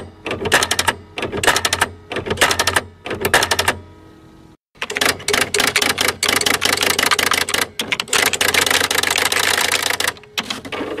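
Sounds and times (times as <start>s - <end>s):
typewriter motor hum: 0.0s - 3.8s, 4.8s - 11.0s
typewriter keystrokes: 0.3s - 3.8s, 4.8s - 10.6s.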